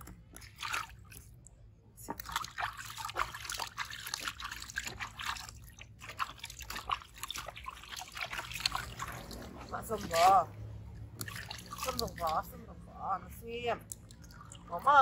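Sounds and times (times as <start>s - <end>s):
water splashing in a plastic tub: 0.0s - 15.0s.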